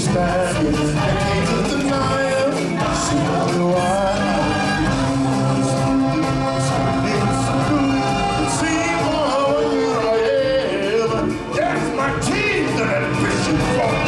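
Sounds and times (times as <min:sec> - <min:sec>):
live stage music with singers: 0:00.0 - 0:14.0.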